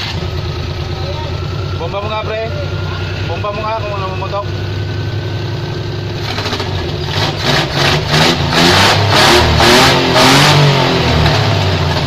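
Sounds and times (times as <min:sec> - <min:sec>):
petrol engine revving: 0:00.0 - 0:12.0.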